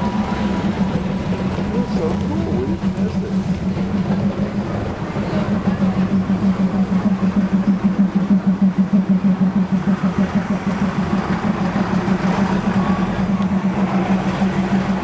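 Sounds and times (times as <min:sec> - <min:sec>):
diesel train engine throbbing: 0:00.0 - 0:15.0.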